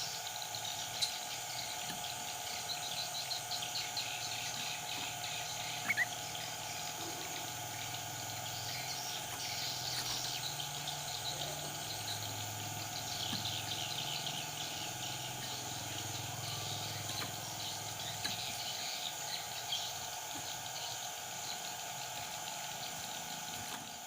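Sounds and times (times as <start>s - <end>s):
birds chattering: 0.0s - 24.0s
insect drone: 0.0s - 24.0s.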